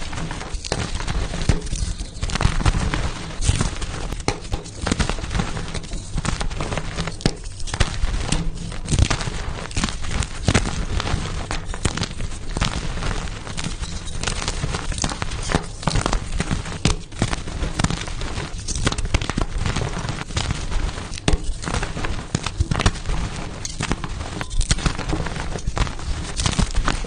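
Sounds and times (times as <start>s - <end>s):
chalk crunching and crackling: 0.0s - 27.0s.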